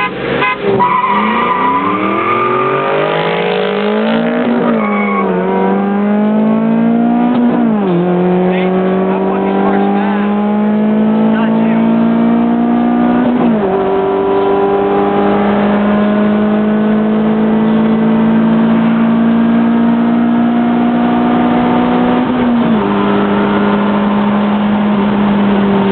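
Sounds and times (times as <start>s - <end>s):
car engine accelerating hard: 0.0s - 25.9s.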